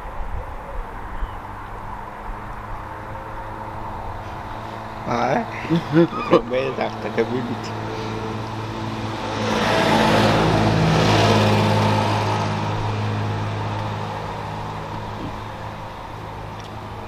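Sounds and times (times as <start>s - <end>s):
car engine passing by: 0.8s - 17.0s.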